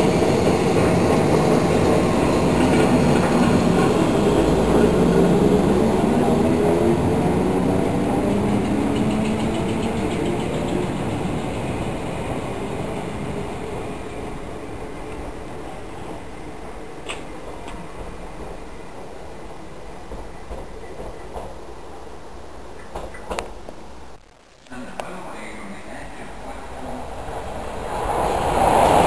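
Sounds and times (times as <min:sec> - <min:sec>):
wheels rumbling on rail: 0:00.0 - 0:22.0, 0:25.8 - 0:29.0.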